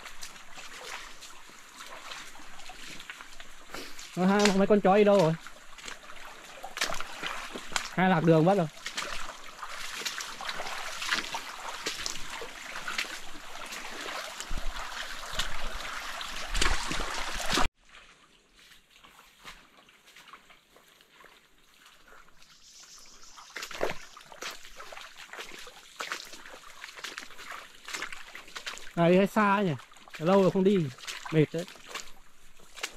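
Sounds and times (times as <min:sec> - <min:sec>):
stream trickling: 0:00.0 - 0:32.9.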